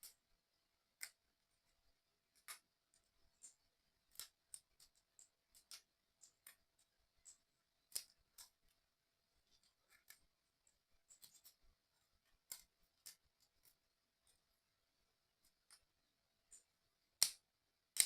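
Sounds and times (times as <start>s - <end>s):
small plastic parts clicking: 0.0s - 8.8s, 9.5s - 14.4s, 15.4s - 18.0s.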